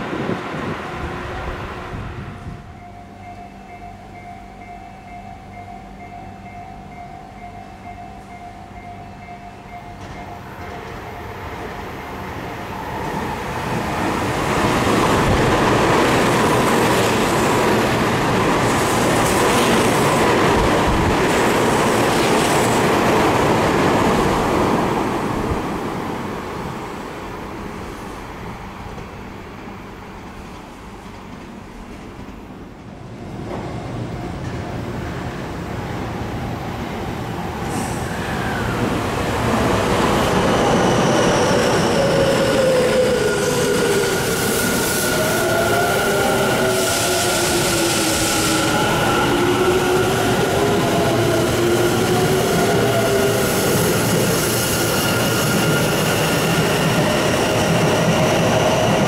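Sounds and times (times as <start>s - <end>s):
another train approaching: 0.0s - 59.0s
train passing at speed: 0.0s - 59.0s.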